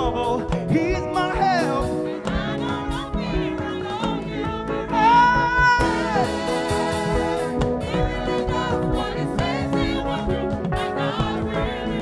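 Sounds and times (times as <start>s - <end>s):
church band playing gospel music: 0.0s - 12.0s
people singing: 0.0s - 12.0s.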